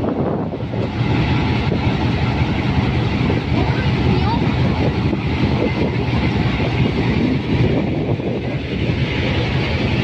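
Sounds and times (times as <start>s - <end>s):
passenger train rumbling past: 0.0s - 10.0s.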